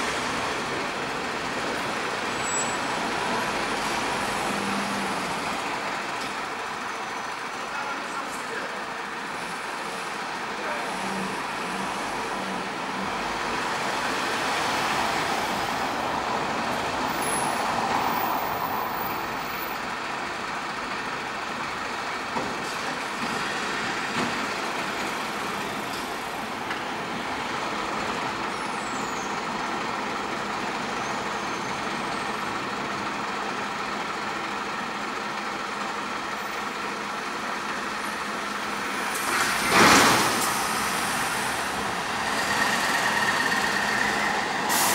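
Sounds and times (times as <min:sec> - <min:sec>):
street hum: 0:00.0 - 0:44.9
truck and van engines: 0:00.0 - 0:44.9.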